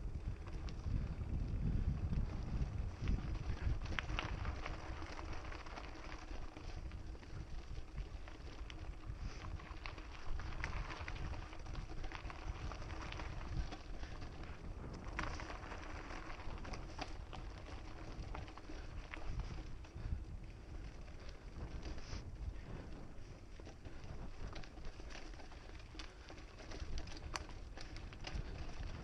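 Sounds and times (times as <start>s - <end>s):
bike tyres rolling on dirt: 0.0s - 29.0s
wind buffeting microphone: 0.0s - 29.0s.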